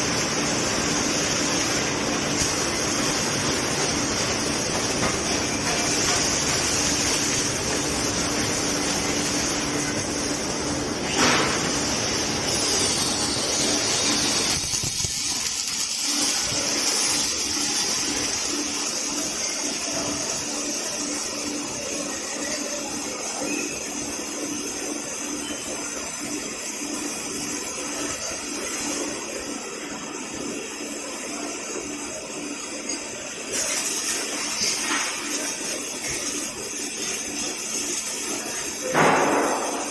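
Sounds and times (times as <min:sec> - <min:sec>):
welding robot rushing hiss: 0:00.0 - 0:39.9.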